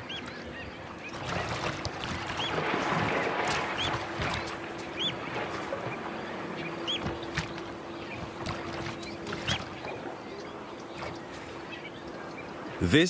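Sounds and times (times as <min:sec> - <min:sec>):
water sloshing: 0:00.0 - 0:12.8.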